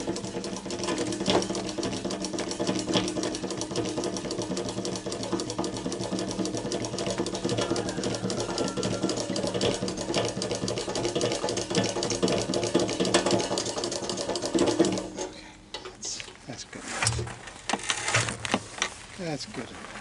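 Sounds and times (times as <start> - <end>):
small pump clattering: 0.0 - 18.9.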